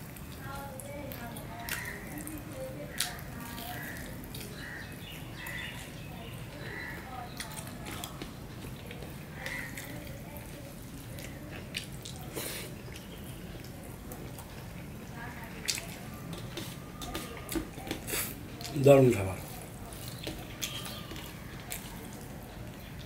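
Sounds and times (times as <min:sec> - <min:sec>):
man chewing food: 0:00.0 - 0:23.0
fingers mixing food on steel plate: 0:00.2 - 0:23.0.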